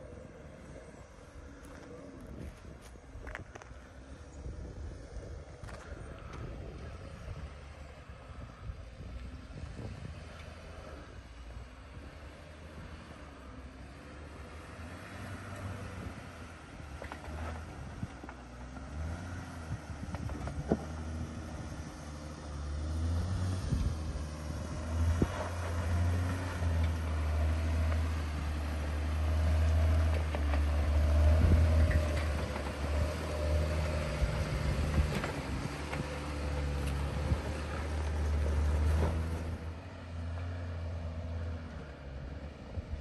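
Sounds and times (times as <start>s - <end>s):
off-road vehicle engine rumble: 0.0s - 43.0s.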